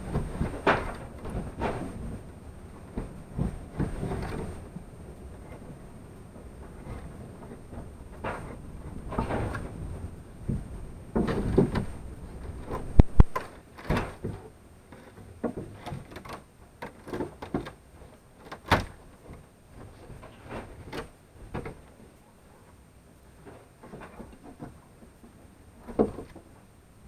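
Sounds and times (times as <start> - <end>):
knocks and scrapes of hand work: 0.0 - 2.2, 2.8 - 5.8, 6.6 - 21.9, 23.3 - 26.6.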